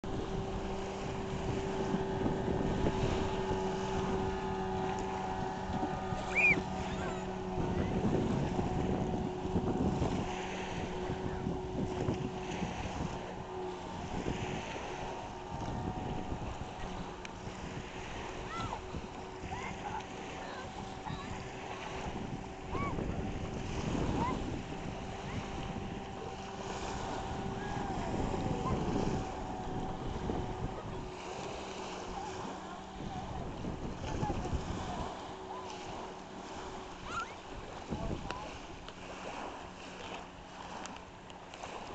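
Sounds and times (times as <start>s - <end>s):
outboard motor at high speed: 0.0s - 41.9s
rushing water and spray: 0.0s - 41.9s
wind buffeting microphone: 0.0s - 41.9s.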